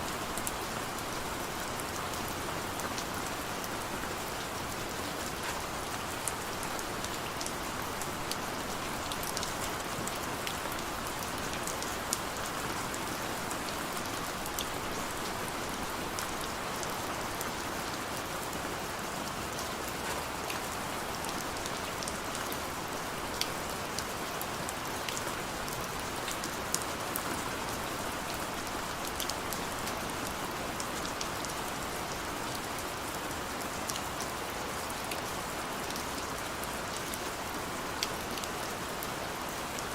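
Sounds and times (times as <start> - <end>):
heavy rain with drops ticking: 0.0 - 39.9.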